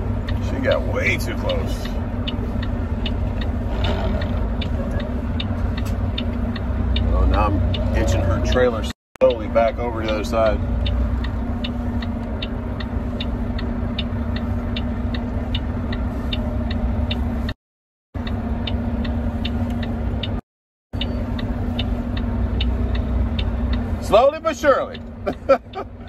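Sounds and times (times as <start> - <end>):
diesel engine idling: 0.0 - 17.6, 21.0 - 26.0
steady light ticking: 0.0 - 17.6, 21.0 - 26.0.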